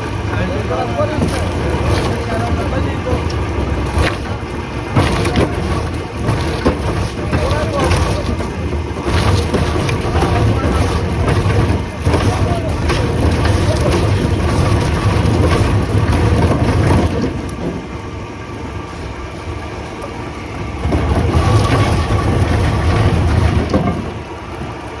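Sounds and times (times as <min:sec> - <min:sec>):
veneer lathe cutting log: 0:00.0 - 0:25.0.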